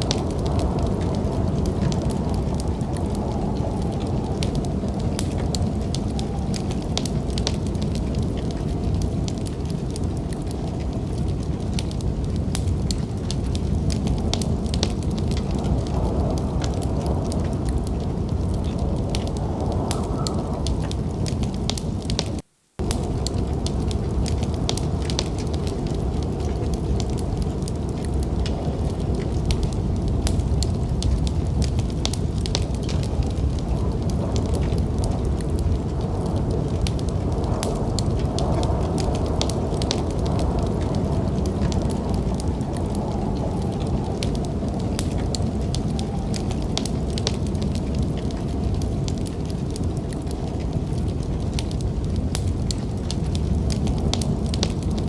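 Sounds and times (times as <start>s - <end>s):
low rumble: 0.0s - 55.0s
wood fire crackling: 0.0s - 55.0s.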